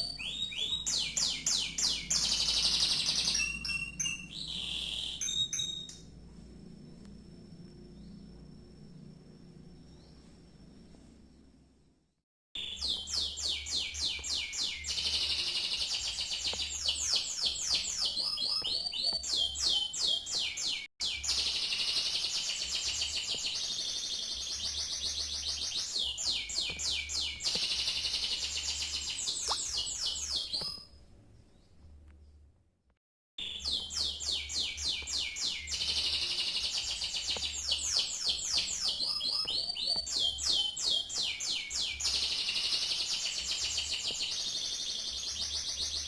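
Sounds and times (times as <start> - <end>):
canary singing fast trills: 0.0 - 6.0, 12.6 - 30.9, 33.4 - 46.0.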